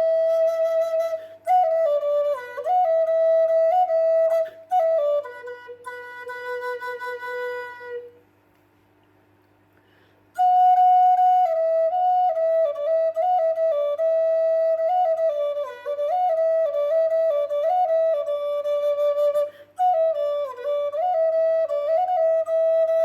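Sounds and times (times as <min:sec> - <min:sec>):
solo flute melody: 0:00.0 - 0:08.2, 0:10.3 - 0:23.0.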